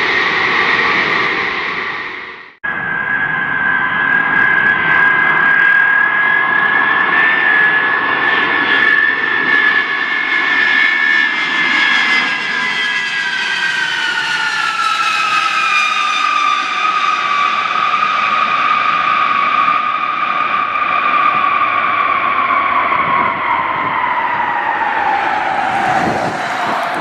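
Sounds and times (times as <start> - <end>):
aircraft roar: 0.0 - 27.0
jet engines whining: 0.0 - 27.0.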